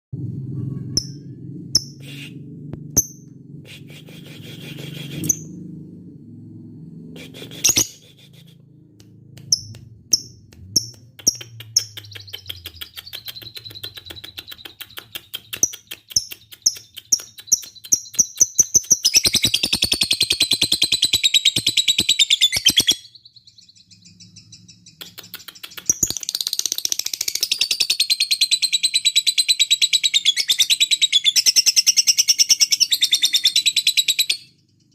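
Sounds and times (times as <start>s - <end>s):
lovebird chirping and chattering: 0.9s - 2.4s, 4.3s - 5.6s, 7.2s - 8.4s, 9.4s - 34.9s.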